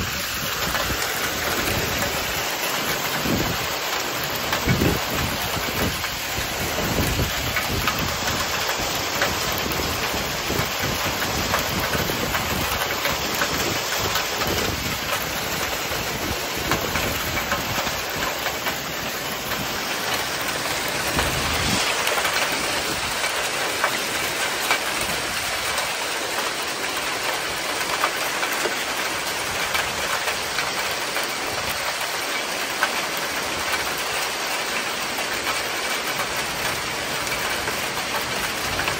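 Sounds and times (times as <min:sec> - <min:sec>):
wind gusts: 0:00.0 - 0:34.0
hailstones ticking: 0:00.0 - 0:38.9
heavy rain hiss: 0:00.0 - 0:38.9.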